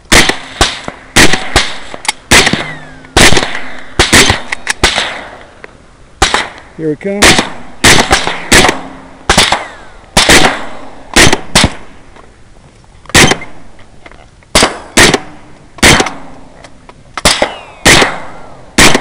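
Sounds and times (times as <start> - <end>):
rifle shots with echo: 0.1 - 5.6, 6.2 - 12.1, 13.1 - 13.8, 14.5 - 16.6, 17.2 - 19.0.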